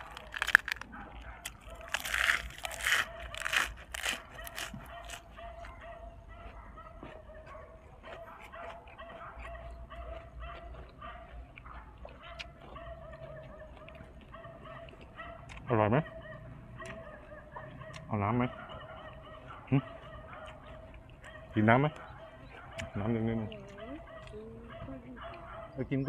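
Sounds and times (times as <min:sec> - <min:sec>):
crunching and chewing food: 0:00.0 - 0:26.0.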